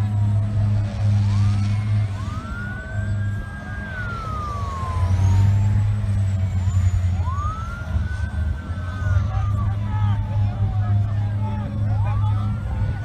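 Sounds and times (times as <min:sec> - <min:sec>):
emergency sirens wailing: 0:00.0 - 0:13.0.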